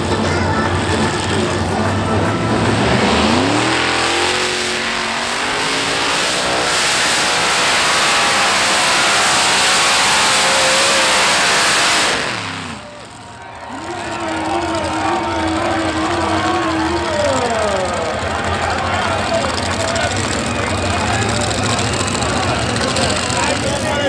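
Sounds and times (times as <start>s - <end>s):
pulling tractor engine revving: 0.0s - 24.0s.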